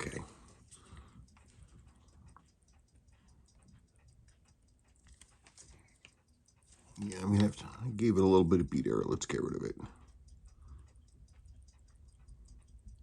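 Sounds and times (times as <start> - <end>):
watch ticking: 0.0 - 13.0.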